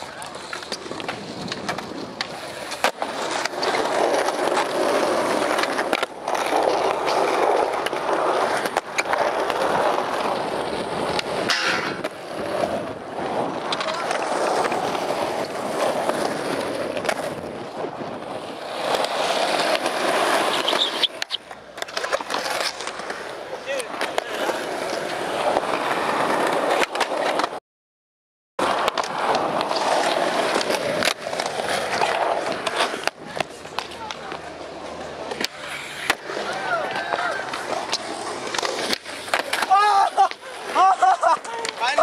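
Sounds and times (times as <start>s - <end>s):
skateboard popping and landing: 0.0s - 27.6s, 28.6s - 42.0s
skateboard wheels rolling on concrete: 0.0s - 27.6s, 28.6s - 42.0s.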